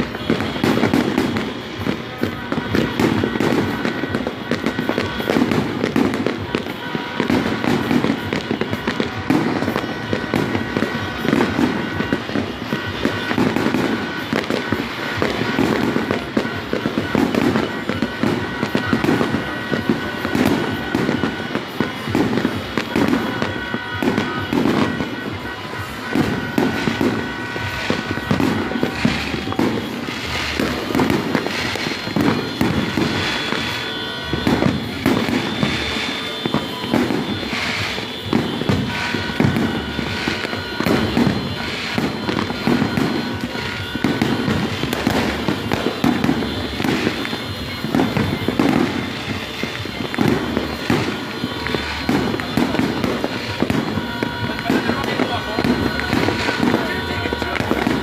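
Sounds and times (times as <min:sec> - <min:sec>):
fireworks and firecrackers banging: 0:00.0 - 0:58.0.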